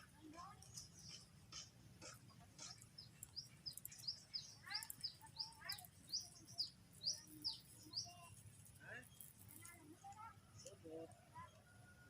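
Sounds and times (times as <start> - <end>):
small bird chirping: 0.4 - 12.0.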